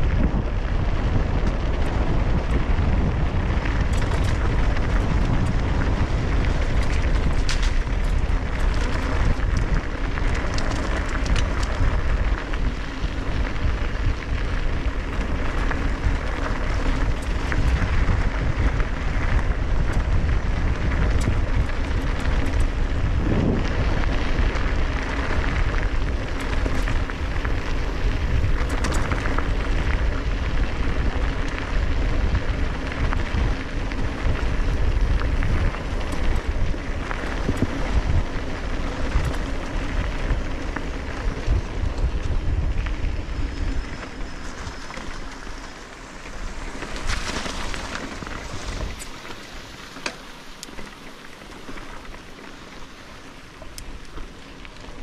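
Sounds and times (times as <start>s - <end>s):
bike clicks and rattles: 0.0s - 55.0s
wind rushing over microphone: 0.0s - 55.0s.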